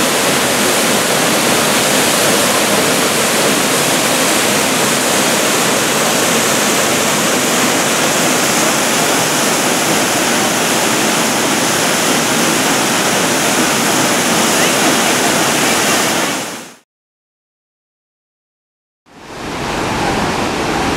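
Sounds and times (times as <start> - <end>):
waterfall rushing into pool: 0.0 - 16.8, 19.1 - 20.9.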